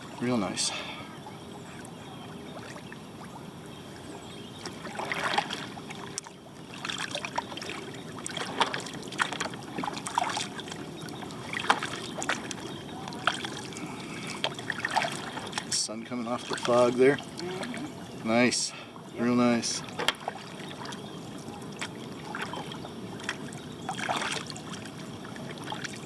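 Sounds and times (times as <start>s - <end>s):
kayak paddle splashing: 0.0s - 26.0s.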